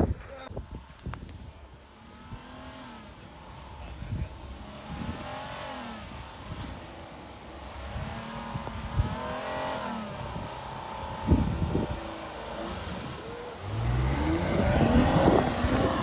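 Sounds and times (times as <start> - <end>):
vehicle engine revving: 1.0 - 16.0.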